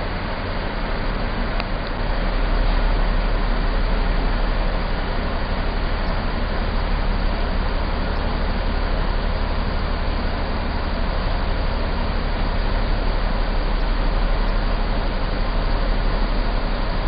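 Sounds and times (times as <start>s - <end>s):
crane machinery humming and hissing: 0.0s - 17.0s.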